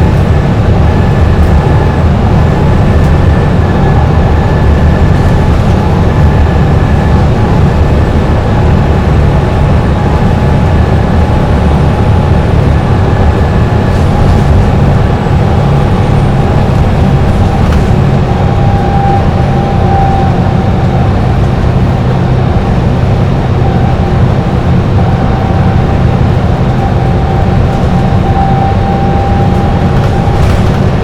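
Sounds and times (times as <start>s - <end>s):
bus engine rumble: 0.0s - 31.0s
thin steady whine: 0.0s - 31.0s.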